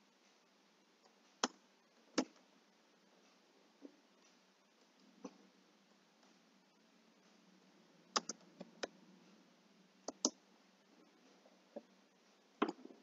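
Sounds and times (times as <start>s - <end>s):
faint room hiss: 0.0s - 13.0s.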